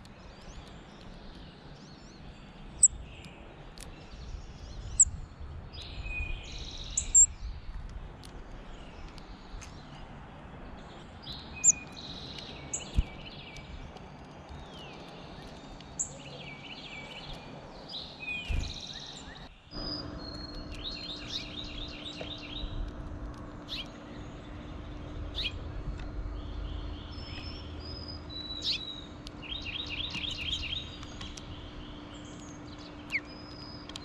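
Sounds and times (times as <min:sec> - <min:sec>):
faint low hum: 0:00.0 - 0:34.0
songbirds singing: 0:00.0 - 0:34.0.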